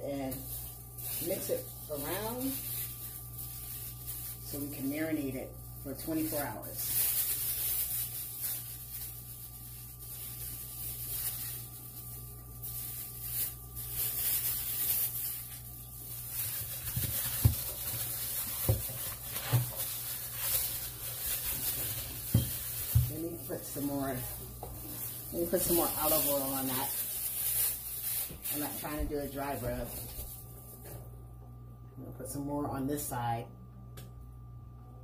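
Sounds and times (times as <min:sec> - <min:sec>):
rustling handling noise: 0:00.1 - 0:31.1.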